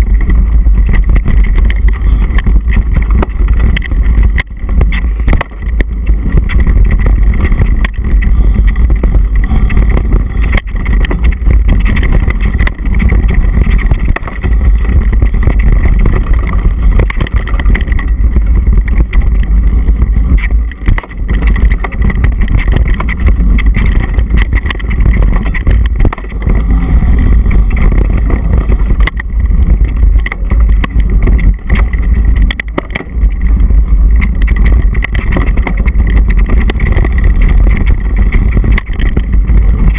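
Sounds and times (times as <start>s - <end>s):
bike knocks and rattles: 0.0s - 39.9s
wind rushing over microphone: 0.0s - 39.9s.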